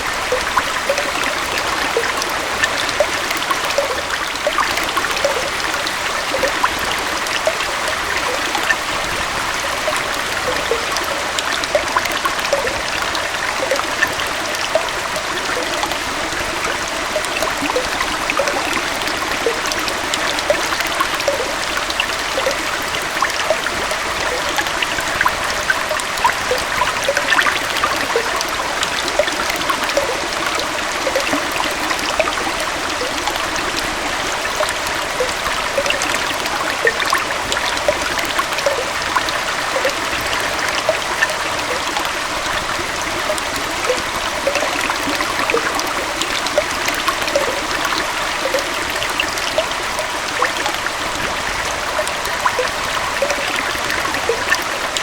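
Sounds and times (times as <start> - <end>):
small waterfall and stream flowing: 0.0 - 55.0.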